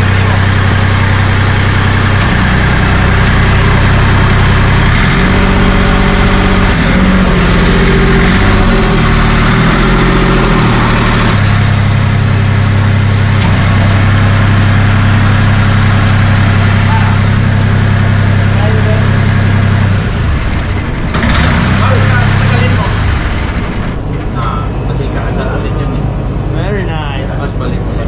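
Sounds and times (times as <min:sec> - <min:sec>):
boat diesel engine running: 0:00.0 - 0:28.0.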